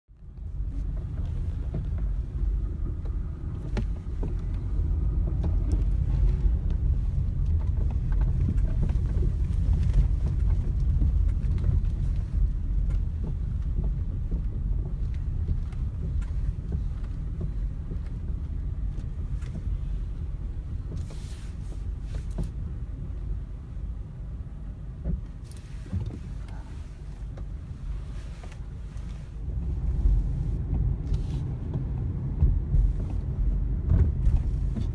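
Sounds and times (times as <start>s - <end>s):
car driving rumble: 0.1s - 34.9s
steering knocks and rattles: 0.2s - 34.9s.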